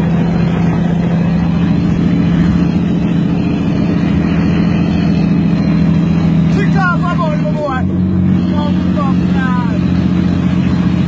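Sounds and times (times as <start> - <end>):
road noise: 0.0 - 11.0
truck engine drone: 0.0 - 11.0.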